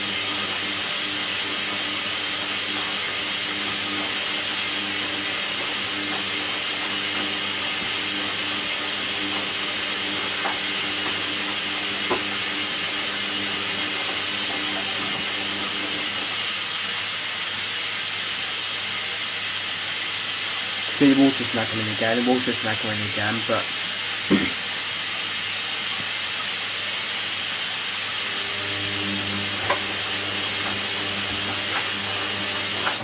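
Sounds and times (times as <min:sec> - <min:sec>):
washing machine running: 0:00.0 - 0:33.0.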